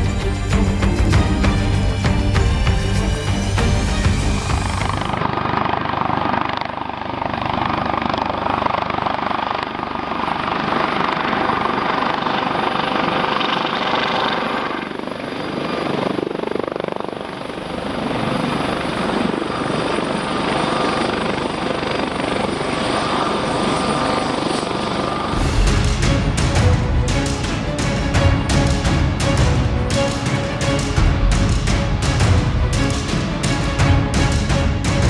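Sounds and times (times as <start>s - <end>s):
helicopter rotor and turbines: 0.0s - 35.0s.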